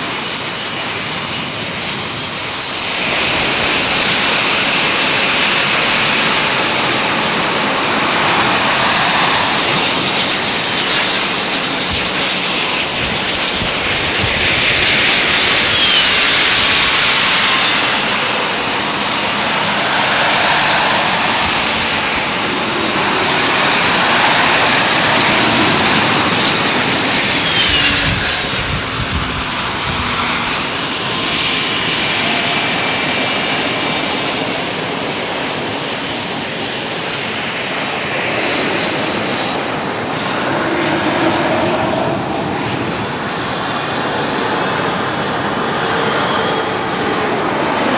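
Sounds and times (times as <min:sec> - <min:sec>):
high turbine whines: 0:00.0 - 0:47.9
jet engines running: 0:00.0 - 0:47.9.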